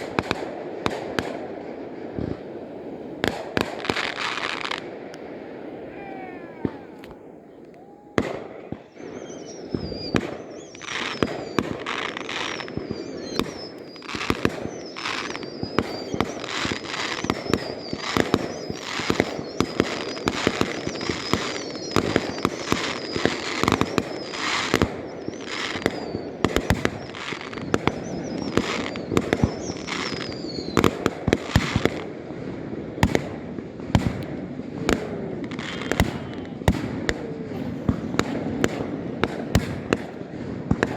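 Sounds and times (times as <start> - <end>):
fireworks bangs and crackles: 0.0 - 40.9
whistling firework shells: 0.0 - 40.9.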